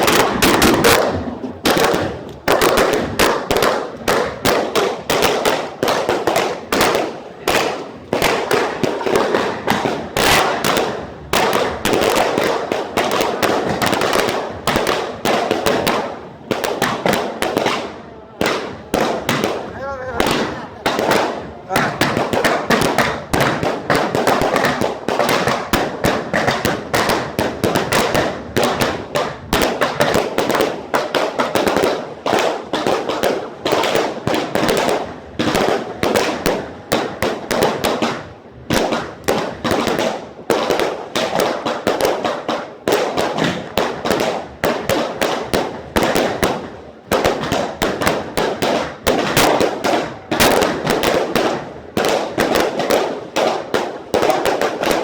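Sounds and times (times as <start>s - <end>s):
fireworks and gunfire bangs: 0.0s - 55.0s.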